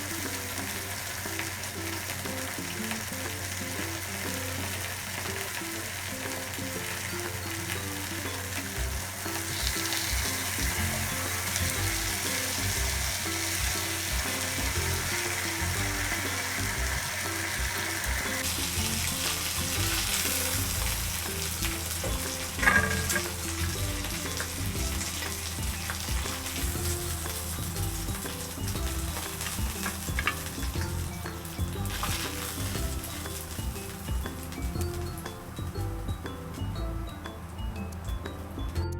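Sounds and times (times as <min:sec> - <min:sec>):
food sizzling in a pan: 0:00.0 - 0:37.8.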